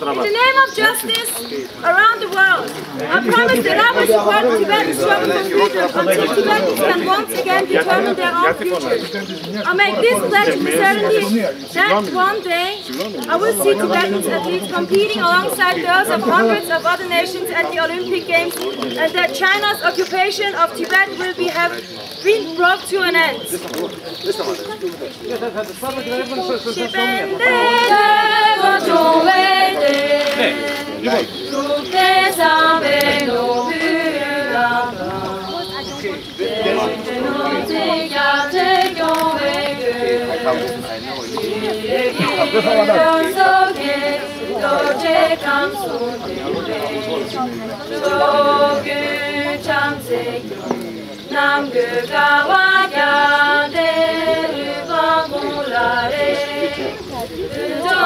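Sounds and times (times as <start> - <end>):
women singing together: 0.4 - 8.8, 9.6 - 12.7, 13.3 - 21.7, 25.9 - 58.0.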